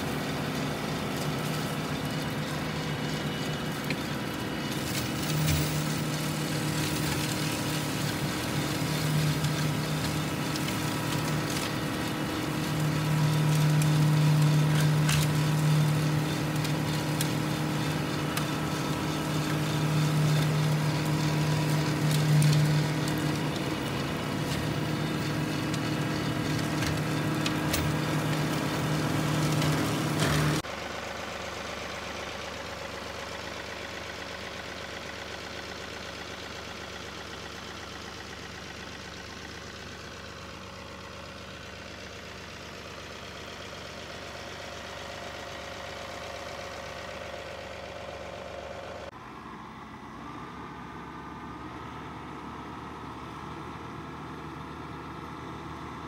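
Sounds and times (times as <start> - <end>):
flail mower mulching brush: 0.0 - 49.2
tractor engine hum: 0.0 - 56.0.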